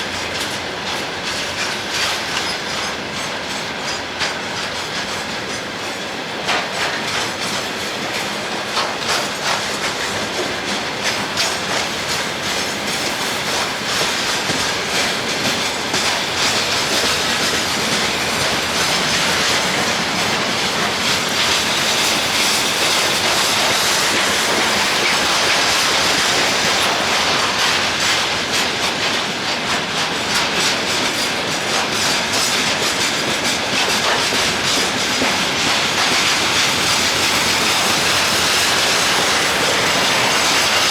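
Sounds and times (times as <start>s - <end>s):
train wheels clickety-clack: 0.0s - 40.9s.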